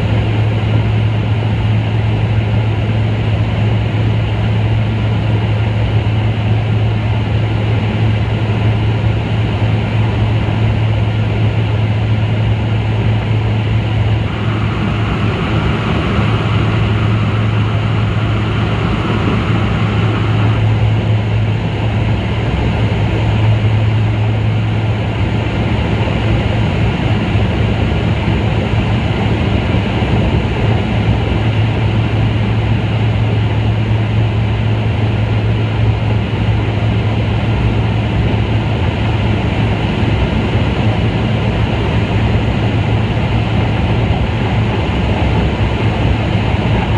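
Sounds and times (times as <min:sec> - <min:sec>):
aircraft cabin drone: 0:00.0 - 0:46.9
higher hum: 0:00.0 - 0:46.9.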